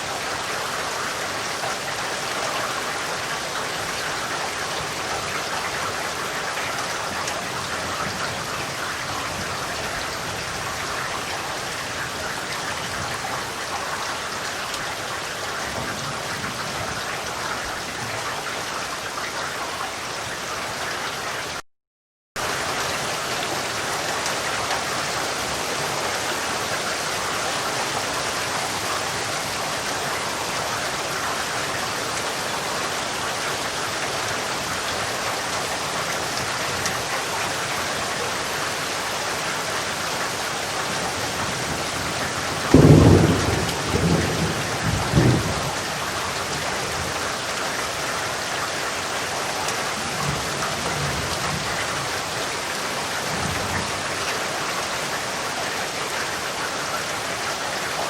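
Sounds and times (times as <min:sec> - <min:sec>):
rain pattering: 0:00.0 - 0:21.6, 0:22.4 - 0:58.0.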